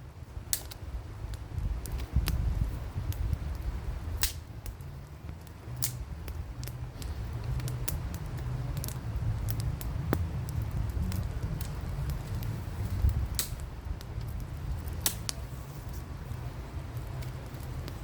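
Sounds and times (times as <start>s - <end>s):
campfire crackling and popping: 0.0s - 18.0s
low steady rumble: 0.0s - 18.0s.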